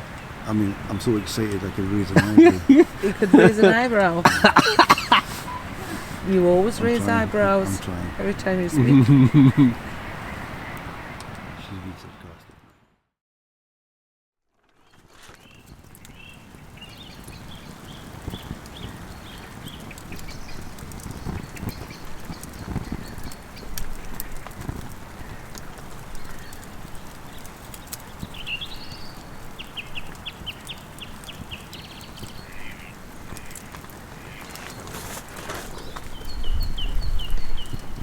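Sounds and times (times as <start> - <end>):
birds singing: 0.0 - 12.7, 15.4 - 38.0
steady outdoor hiss: 0.0 - 12.8, 15.1 - 38.0.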